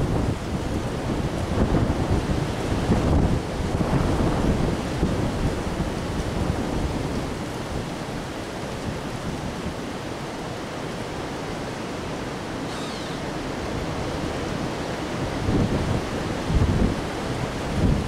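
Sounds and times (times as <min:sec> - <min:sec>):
wind rushing through treetops: 0:00.0 - 0:18.0.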